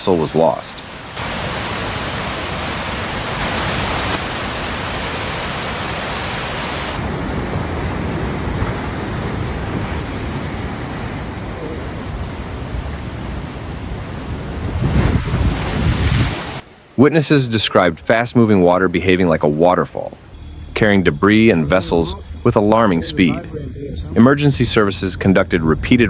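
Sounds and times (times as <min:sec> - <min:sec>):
rushing floodwater roar: 0:00.0 - 0:26.0.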